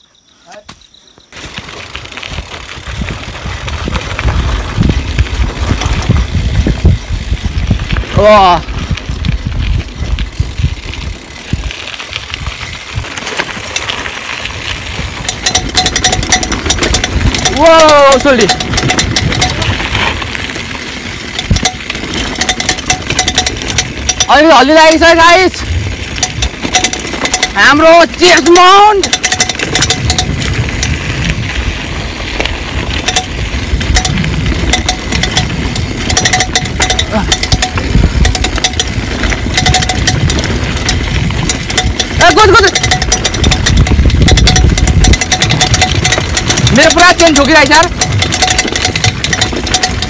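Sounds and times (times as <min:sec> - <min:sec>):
bike clicking and rattling: 0:00.5 - 0:50.0
bike rumbling over rough ground: 0:01.0 - 0:50.0
wind buffeting microphone: 0:01.9 - 0:50.0.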